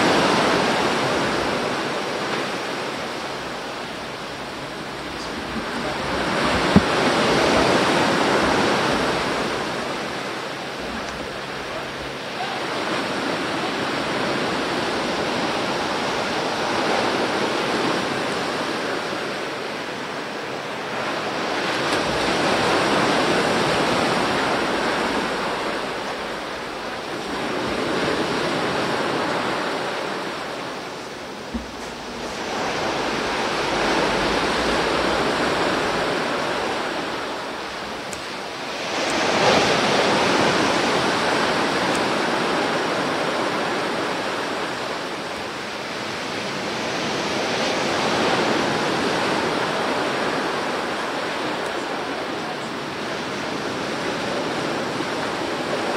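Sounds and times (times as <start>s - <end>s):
waves breaking on a beach: 0.0s - 55.9s.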